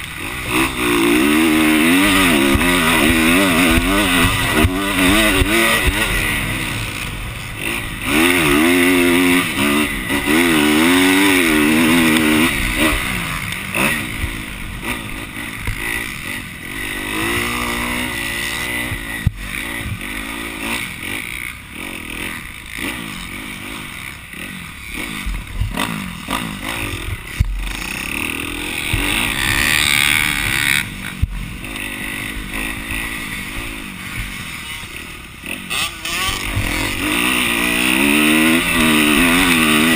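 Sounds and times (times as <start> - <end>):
constant rush of noise: 0.0 - 39.9
dirt bike engine revving: 0.0 - 39.9.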